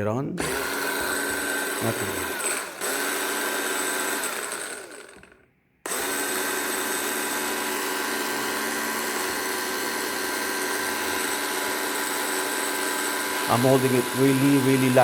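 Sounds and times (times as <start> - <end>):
angle grinder motor whining: 0.4 - 15.0.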